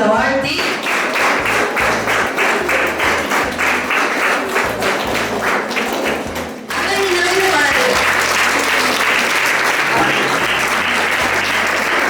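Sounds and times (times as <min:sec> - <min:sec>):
audience clapping in rhythm: 0:00.4 - 0:12.0.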